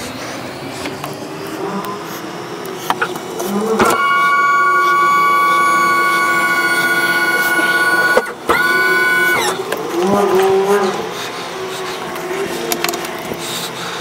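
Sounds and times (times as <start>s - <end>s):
electric lift motor whine: 0.0s - 14.0s.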